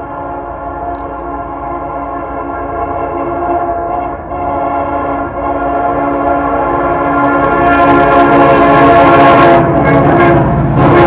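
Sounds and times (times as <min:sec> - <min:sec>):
locomotive air horn: 0:00.0 - 0:11.0
locomotive and wheels rumbling: 0:00.0 - 0:11.0.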